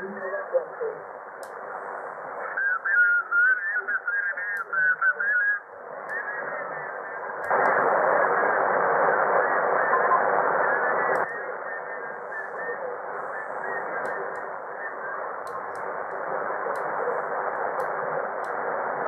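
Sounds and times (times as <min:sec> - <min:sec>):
radio band hiss: 0:00.0 - 0:19.0
garbled radio voice: 0:01.8 - 0:19.0.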